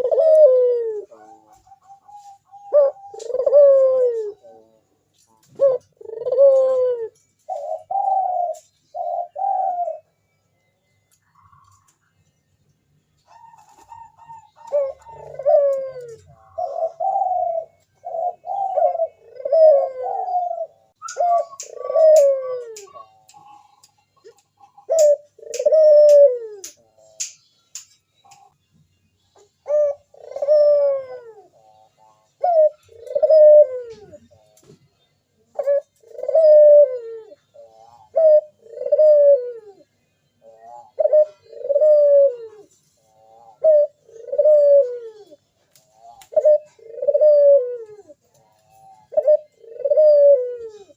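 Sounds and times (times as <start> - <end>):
dove cooing: 0.0 - 4.8, 5.4 - 10.1, 13.2 - 27.3, 29.4 - 34.8, 35.4 - 50.9.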